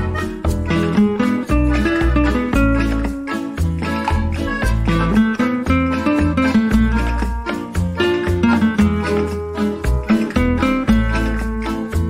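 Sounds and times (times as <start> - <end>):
bass line: 0.0 - 12.0
plucked guitar music: 0.0 - 12.0.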